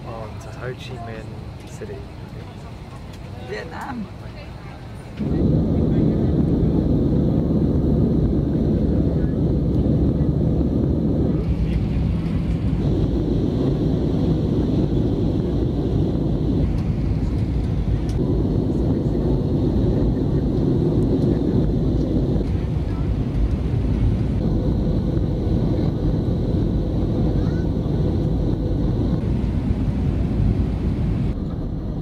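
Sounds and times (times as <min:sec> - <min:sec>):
airliner cabin engine noise: 0:00.0 - 0:32.0.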